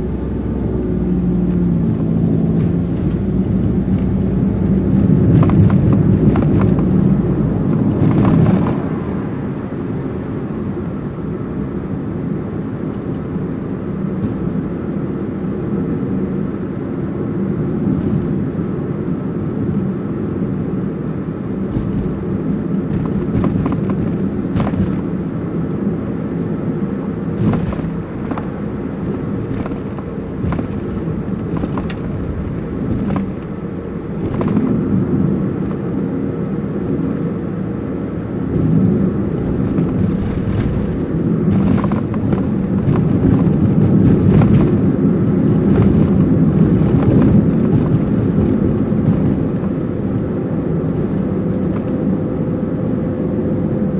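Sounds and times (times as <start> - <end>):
car road and engine rumble: 0.0 - 53.9.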